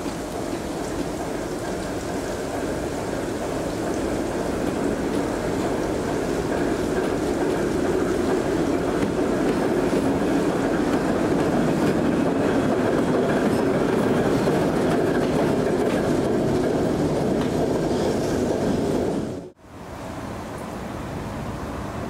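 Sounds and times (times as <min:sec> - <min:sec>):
wheels clicking over rail joints: 0:00.0 - 0:19.5
diesel locomotive engine rumble: 0:00.0 - 0:22.0.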